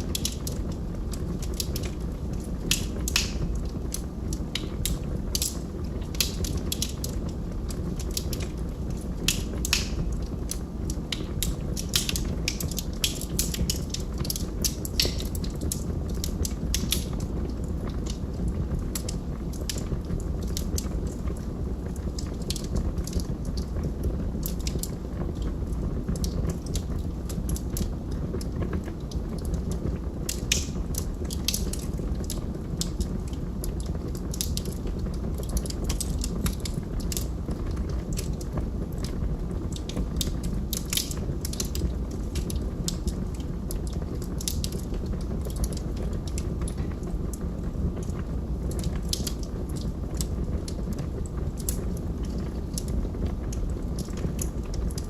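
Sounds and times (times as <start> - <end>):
log fire crackling and popping: 0.0 - 55.0.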